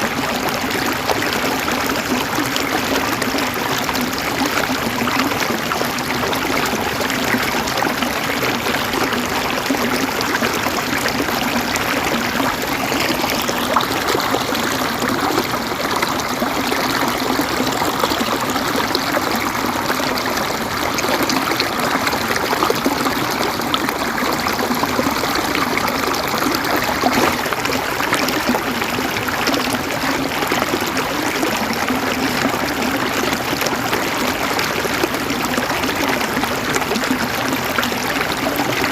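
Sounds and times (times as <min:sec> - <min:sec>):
water flowing: 0:00.0 - 0:38.9.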